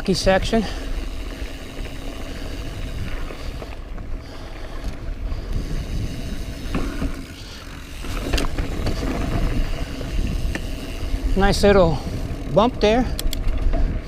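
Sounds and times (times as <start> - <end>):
bike rattling: 0.0 - 14.0
bike tyres rolling on rock: 0.0 - 14.0
wind buffeting microphone: 0.0 - 14.0.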